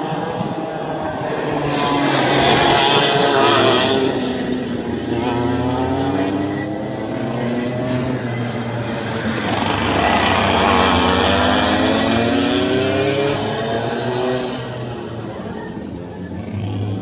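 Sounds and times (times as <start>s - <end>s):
racing kart engines: 0.0s - 17.0s.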